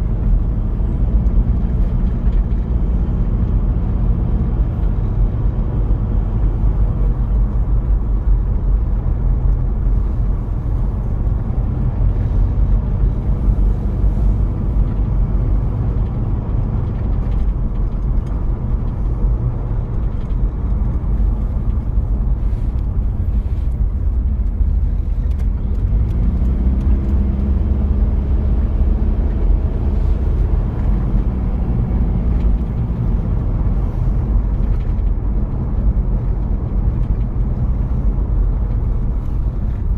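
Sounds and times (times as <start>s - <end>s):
diesel engine running: 0.0s - 39.9s
road rumble: 0.0s - 39.9s.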